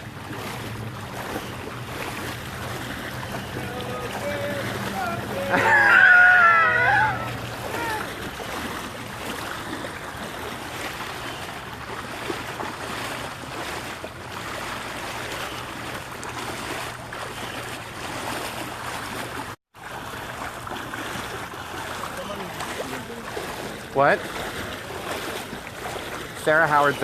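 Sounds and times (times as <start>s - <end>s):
people wading through floodwater: 0.0s - 27.0s.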